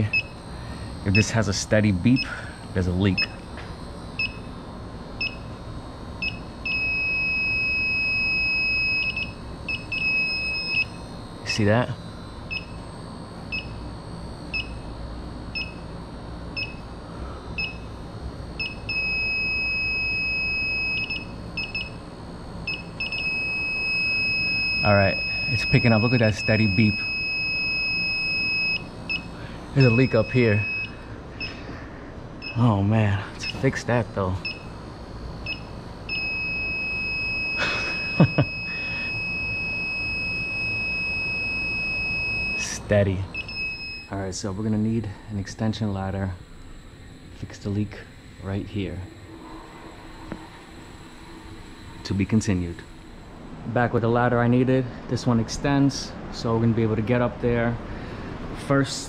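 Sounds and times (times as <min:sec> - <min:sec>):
leak detector beeping: 0:00.0 - 0:57.2.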